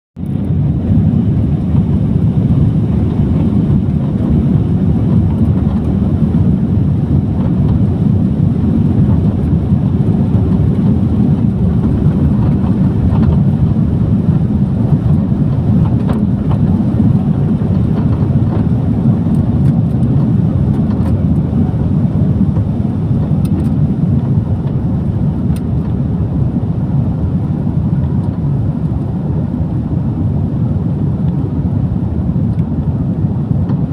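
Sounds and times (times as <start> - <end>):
jet engine rumble in cabin: 0.2 - 33.9.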